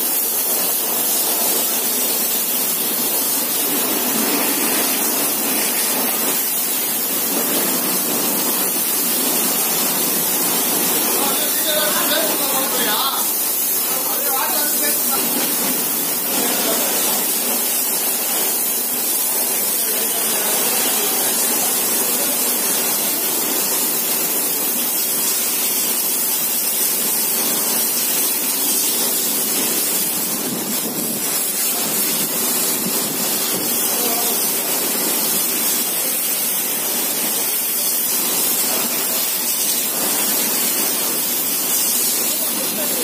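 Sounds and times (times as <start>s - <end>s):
pressure washer jet hissing: 0.0s - 43.0s.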